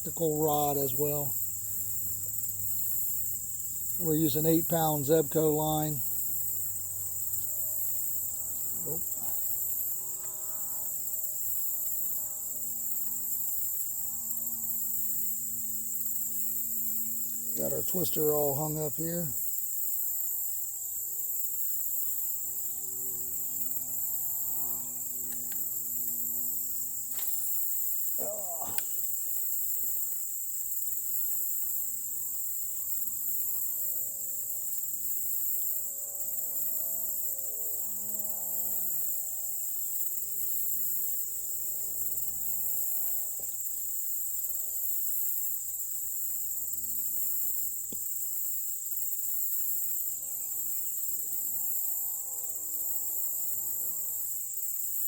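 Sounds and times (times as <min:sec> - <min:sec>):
insect chorus droning: 0:00.0 - 0:55.0.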